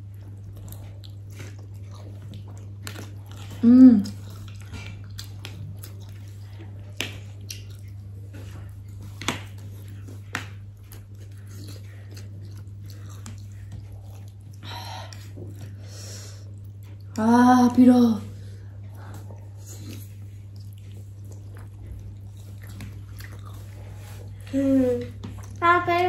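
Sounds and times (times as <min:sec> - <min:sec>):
people chewing noodles: 0:00.0 - 0:26.0.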